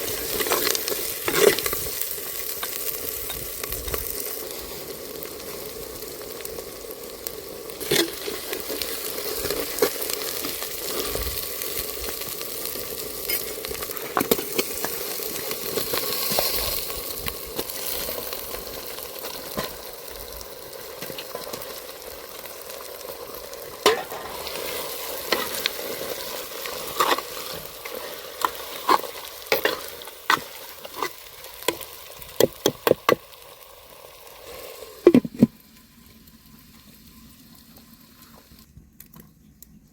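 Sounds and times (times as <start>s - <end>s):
chicken sizzling in a pan: 0.0s - 38.7s.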